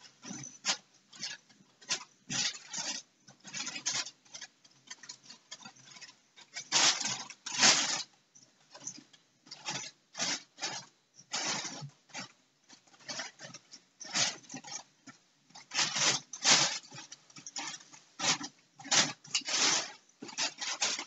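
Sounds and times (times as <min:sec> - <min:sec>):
crinkly mat rustling: 0:00.0 - 0:21.0.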